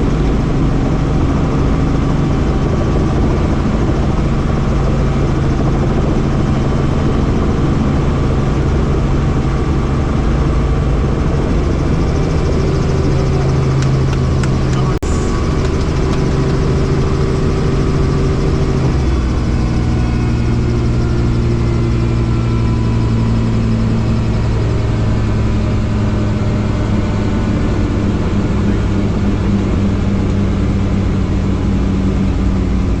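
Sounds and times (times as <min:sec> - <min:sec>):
helicopter engine and rotors: 0:00.0 - 0:33.0.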